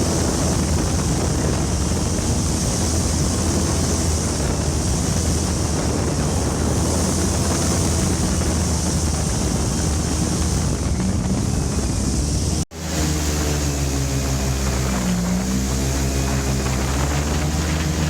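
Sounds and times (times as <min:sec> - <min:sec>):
boat engine drone: 0:00.0 - 0:18.0
water rushing past: 0:00.0 - 0:18.0
wind buffeting microphone: 0:00.0 - 0:18.0.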